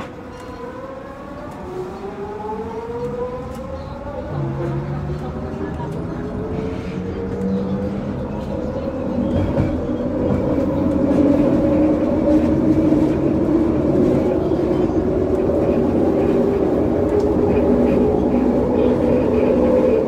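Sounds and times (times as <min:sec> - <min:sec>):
wheel and rail rumble: 0:00.0 - 0:20.0.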